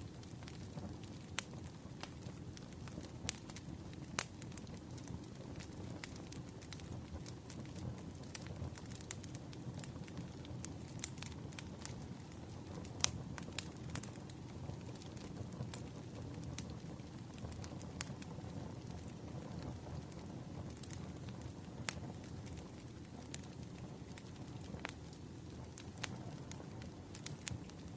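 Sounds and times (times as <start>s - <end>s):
firewood crackling and popping: 0.0s - 27.9s
low fire rumble: 0.0s - 27.9s.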